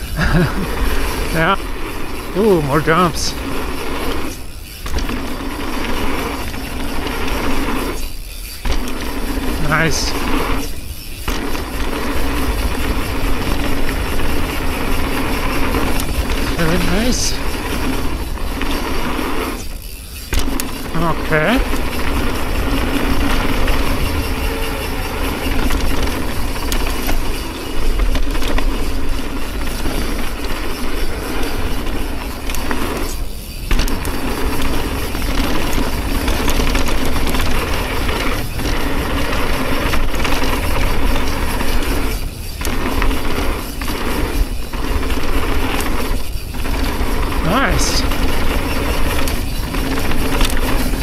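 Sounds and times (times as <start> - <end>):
bike rattling: 0.0 - 51.0
tyres rolling over dirt: 0.0 - 51.0.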